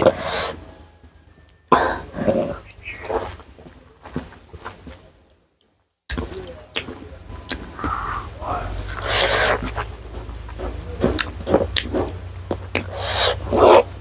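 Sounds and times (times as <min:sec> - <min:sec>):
close chewing and mouth noises: 0:00.0 - 0:05.0, 0:06.1 - 0:14.0
low hum: 0:00.0 - 0:05.3, 0:06.1 - 0:14.0.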